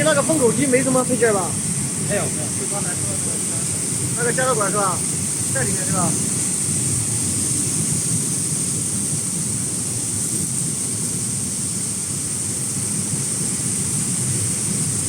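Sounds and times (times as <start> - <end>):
constant high hiss: 0.0 - 15.0.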